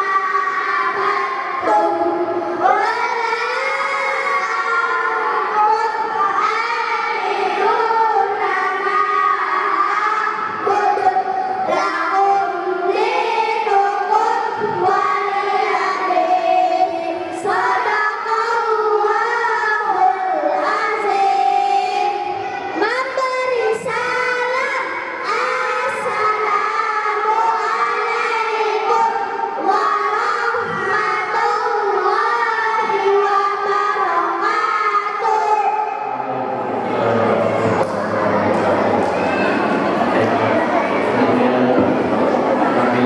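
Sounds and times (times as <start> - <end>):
children singing: 0.0 - 43.0.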